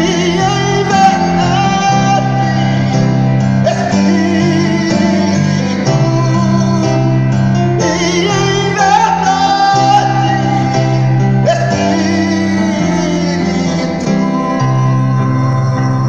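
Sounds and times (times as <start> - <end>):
guitar accompaniment: 0.0 - 16.0
man singing: 0.0 - 16.0.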